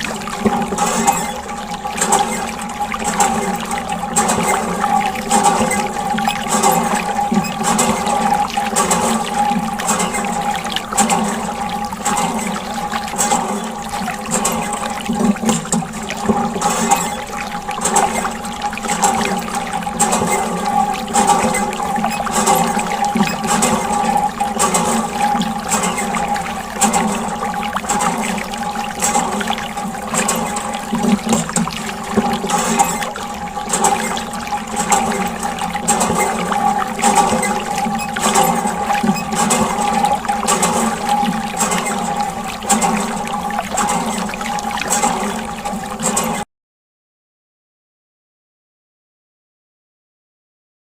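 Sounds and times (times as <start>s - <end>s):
steady hum: 0.0s - 46.0s
water running and splashing: 0.0s - 46.4s.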